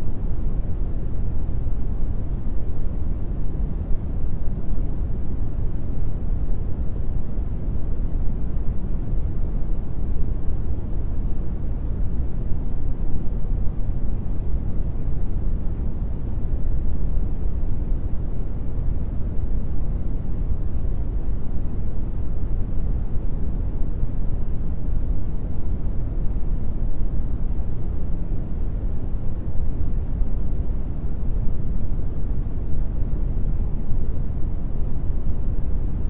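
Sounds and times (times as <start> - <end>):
brown noise rumbling hiss: 0.0 - 36.0.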